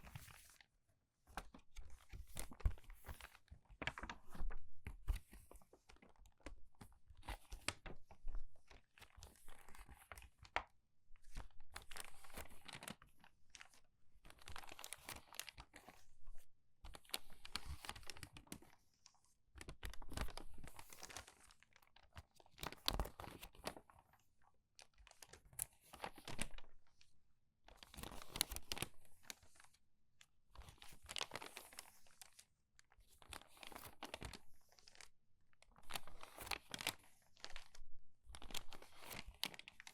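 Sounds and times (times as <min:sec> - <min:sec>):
crinkled paper pages turning: 0:00.0 - 0:00.7, 0:01.3 - 0:16.2, 0:16.9 - 0:24.2, 0:24.8 - 0:27.1, 0:27.7 - 0:29.8, 0:30.6 - 0:35.1, 0:35.7 - 0:39.9.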